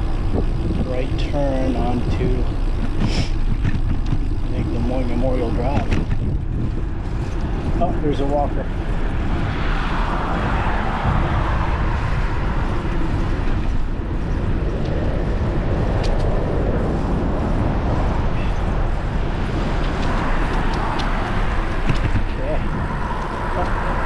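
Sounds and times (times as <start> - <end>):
road traffic passing: 0.0 - 24.0
wind over microphone: 0.0 - 24.0.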